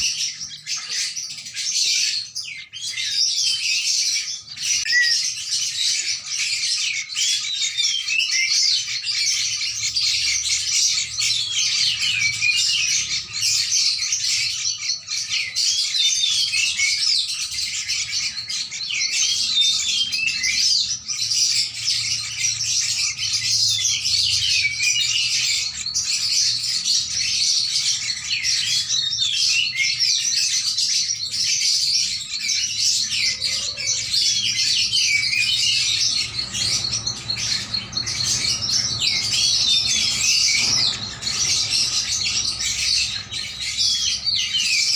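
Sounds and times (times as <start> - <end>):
dense high bird chirping: 0.0 - 44.9.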